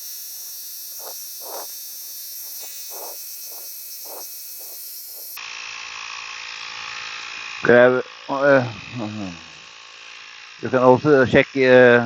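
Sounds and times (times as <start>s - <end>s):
tyre inflator whining buzz: 0.0s - 12.0s.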